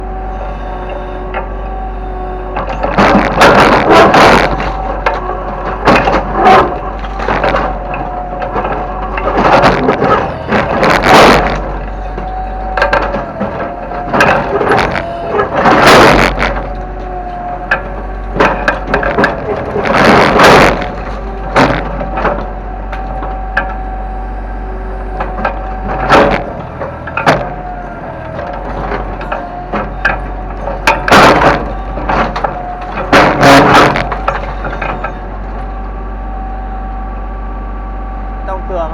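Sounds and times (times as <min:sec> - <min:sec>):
diesel engine running: 0:00.0 - 0:38.9
wavering hydraulic whine: 0:00.0 - 0:38.9
crashes of breaking debris: 0:02.6 - 0:24.4, 0:25.0 - 0:35.3.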